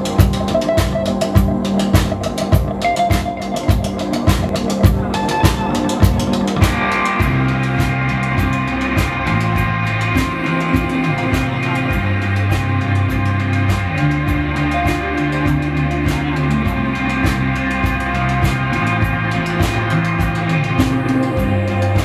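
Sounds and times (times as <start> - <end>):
bass notes: 0.0 - 22.0
drum kit busy beat: 0.0 - 22.0
electric guitar chords: 0.0 - 22.0
keyboard chords: 0.0 - 22.0.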